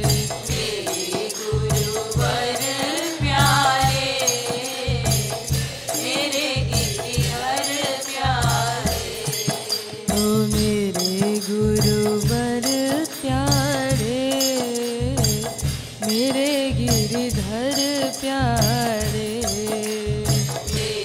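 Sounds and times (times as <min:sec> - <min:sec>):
hand drum beat: 0:00.0 - 0:21.0
small cymbals striking: 0:00.0 - 0:21.0
wavering devotional melody: 0:00.0 - 0:21.0.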